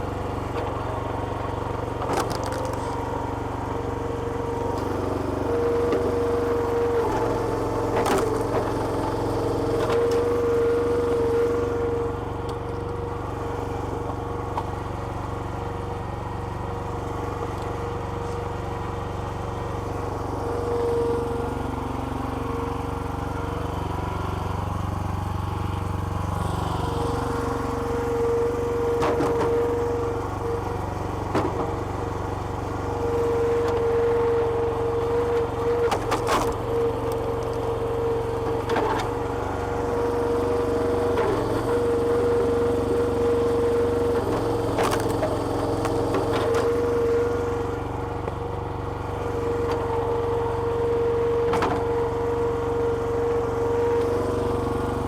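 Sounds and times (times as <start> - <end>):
hydraulic whine: 0.0 - 55.0
small petrol engine running: 0.0 - 55.0.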